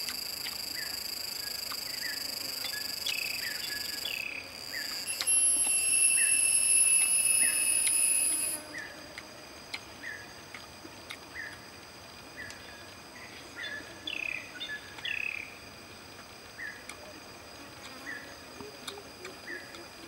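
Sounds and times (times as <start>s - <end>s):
high-pitched insect trill: 0.0s - 20.0s.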